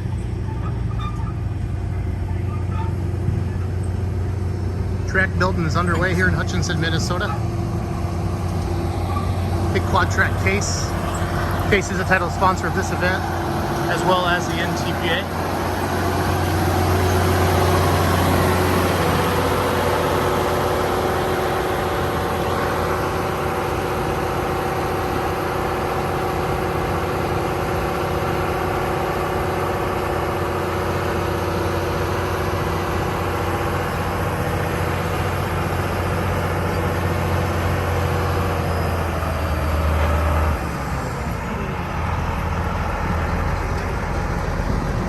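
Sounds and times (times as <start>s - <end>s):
tractor diesel engine droning: 0.0s - 45.0s.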